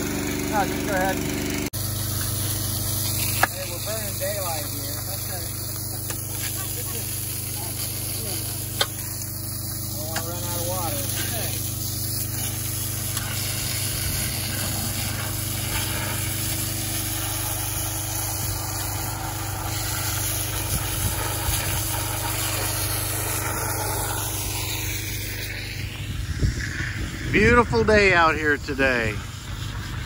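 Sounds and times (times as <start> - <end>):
engine drone: 0.0 - 30.0
water jet hissing: 0.0 - 30.0.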